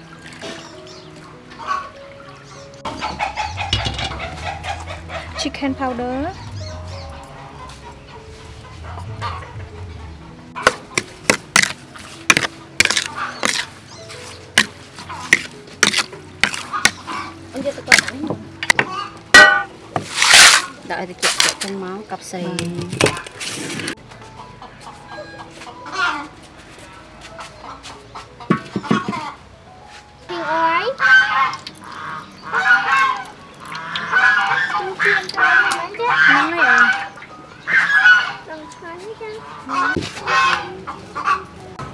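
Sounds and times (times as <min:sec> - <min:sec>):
faint background music: 0:00.0 - 0:41.9.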